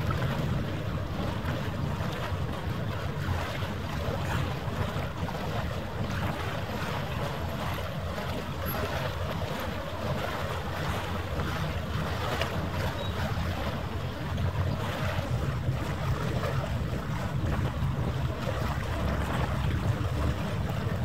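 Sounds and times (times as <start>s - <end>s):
lapping water: 0.0s - 21.0s
wind buffeting microphone: 0.0s - 21.0s.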